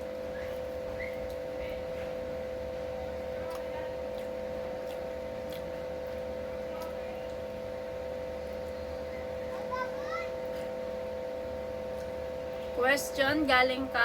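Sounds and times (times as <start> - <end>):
steady mid-pitched hum: 0.0 - 14.0.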